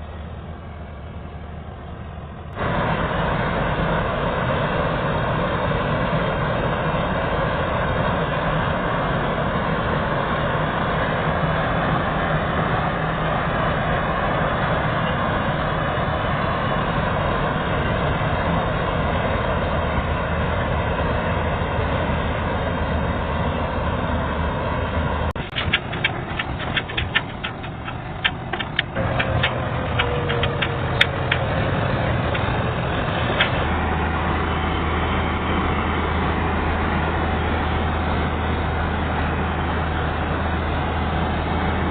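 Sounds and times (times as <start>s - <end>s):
combine harvester droning: 0.0s - 41.9s.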